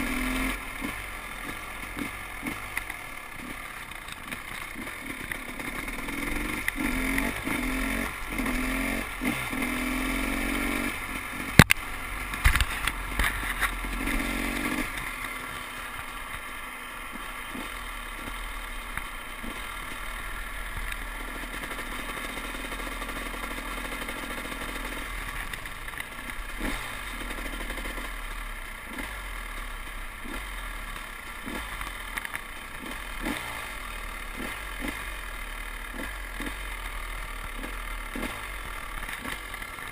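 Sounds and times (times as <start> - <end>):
dirt bike engine accelerating: 0.0 - 39.9.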